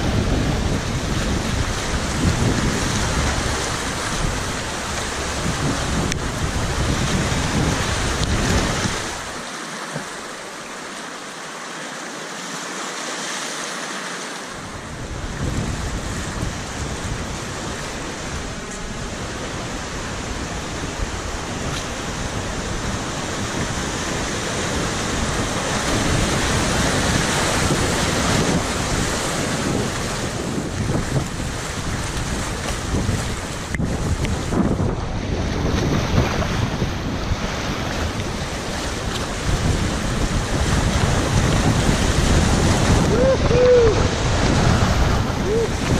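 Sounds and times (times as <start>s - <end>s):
wind buffeting microphone: 0.0s - 9.4s, 14.6s - 45.9s
whitewater rushing: 0.0s - 45.9s.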